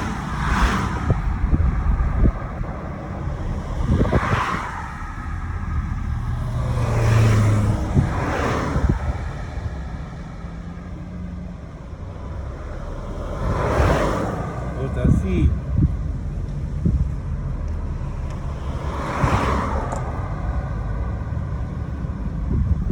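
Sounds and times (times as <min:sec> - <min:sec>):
car road noise rumble: 0:00.0 - 0:22.9
vehicles passing whooshes: 0:00.0 - 0:22.9.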